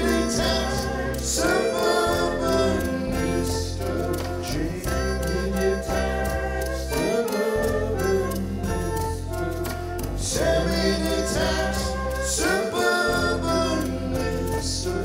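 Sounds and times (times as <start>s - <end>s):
acoustic guitar: 0.0s - 15.0s
bass: 0.0s - 15.0s
drums: 0.0s - 15.0s
keyboard: 0.0s - 15.0s
person singing with harmonies: 0.0s - 15.0s.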